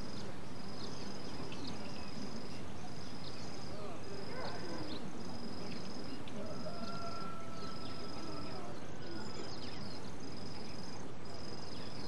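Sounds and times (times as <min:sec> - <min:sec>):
bird chirps: 0:00.0 - 0:12.0
insects trilling: 0:00.0 - 0:12.0.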